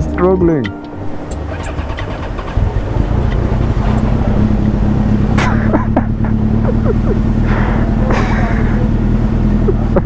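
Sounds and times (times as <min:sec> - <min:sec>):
motorcycle engine idling: 0:01.2 - 0:10.0.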